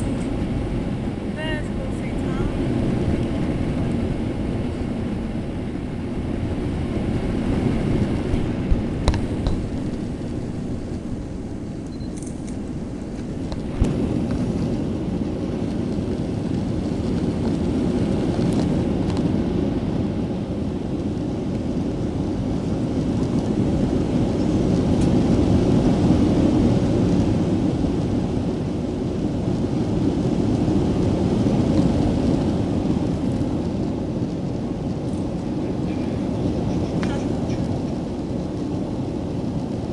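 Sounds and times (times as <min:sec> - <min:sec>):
jet engines rumbling: 0:00.0 - 0:39.9
rushing air: 0:00.0 - 0:39.9.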